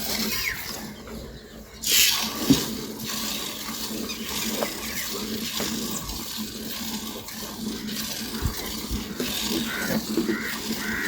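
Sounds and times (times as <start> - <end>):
water running and splashing: 1.8 - 11.0.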